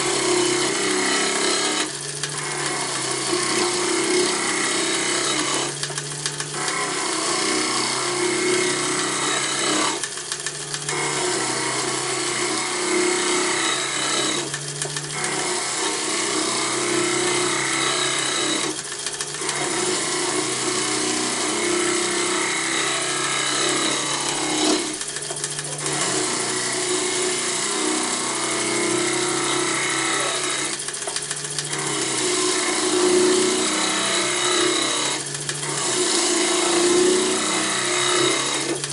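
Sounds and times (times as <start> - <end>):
tool scraping spinning wood: 0.0 - 38.9
wood lathe humming: 0.0 - 38.9.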